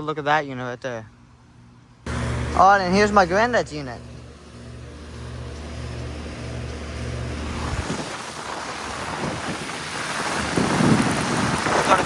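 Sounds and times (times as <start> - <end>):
air conditioner unit humming: 0.0 - 10.8
fan air rushing: 0.6 - 12.0.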